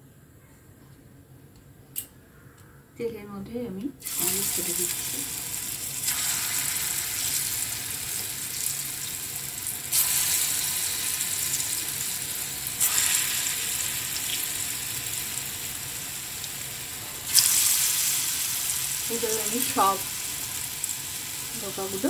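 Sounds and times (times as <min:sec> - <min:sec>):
food sizzling in oil: 0:04.0 - 0:22.0.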